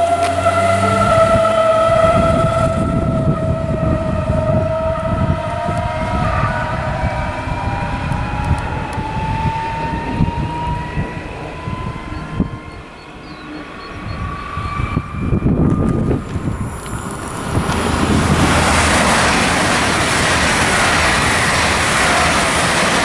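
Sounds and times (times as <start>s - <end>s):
electric train motor whine: 0.0s - 23.0s
wheels rumbling on track: 0.0s - 23.0s.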